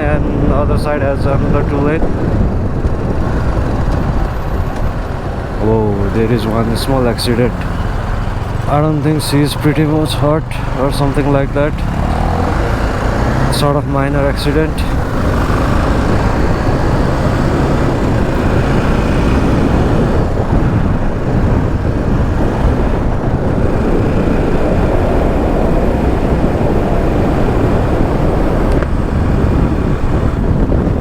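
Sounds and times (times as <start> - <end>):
motorcycle engine running: 0.0 - 31.0
wind rushing over microphone: 0.0 - 31.0.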